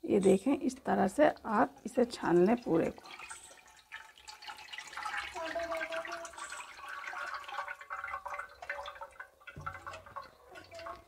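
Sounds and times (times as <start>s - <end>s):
liquid pouring into a pot: 0.1s - 11.0s.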